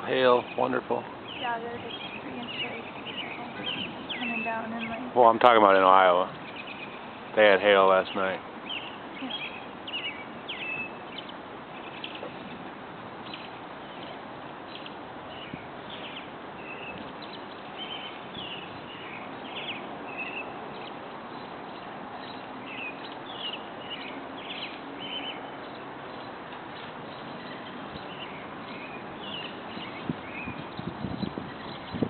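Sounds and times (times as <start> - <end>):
birds chirping: 0.0 - 32.0
outdoor background hiss: 0.0 - 32.0.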